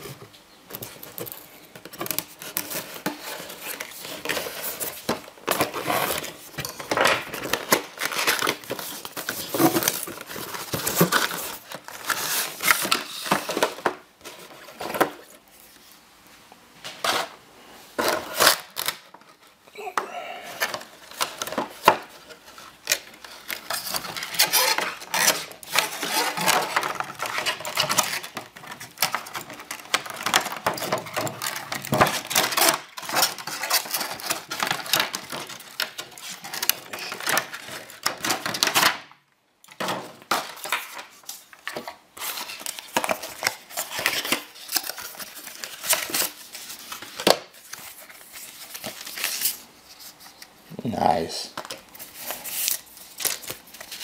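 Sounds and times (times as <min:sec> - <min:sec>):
packaging rustling and scraping: 0:00.0 - 0:16.1, 0:16.9 - 0:39.1, 0:39.7 - 0:50.6, 0:51.6 - 0:54.0.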